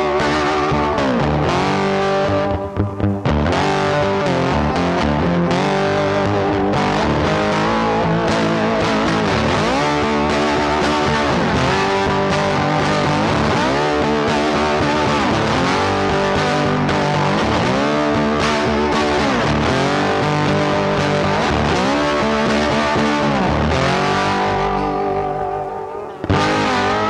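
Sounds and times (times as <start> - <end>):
rock music with electric guitar: 0.0 - 27.0.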